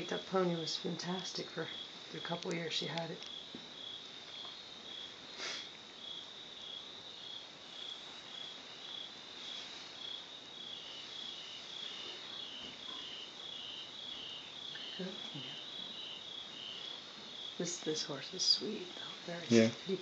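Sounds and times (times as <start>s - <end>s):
crickets chirping: 0.0s - 20.0s
lower-pitched cricket chirping: 0.0s - 20.0s.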